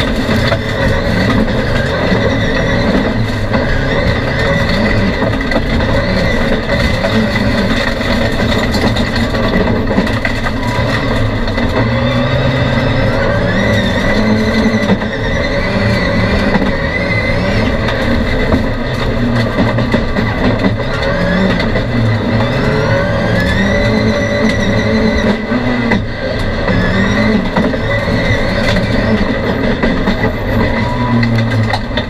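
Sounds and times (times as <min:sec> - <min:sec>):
race car engine at high revs: 0:00.0 - 0:32.0.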